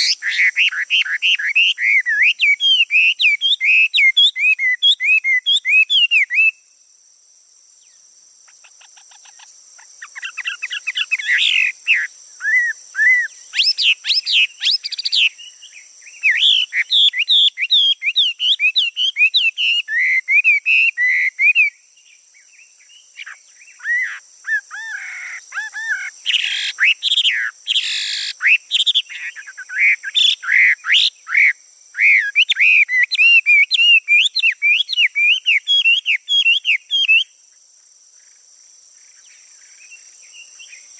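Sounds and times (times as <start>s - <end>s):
songbird singing: 0.0s - 7.0s, 7.6s - 40.9s.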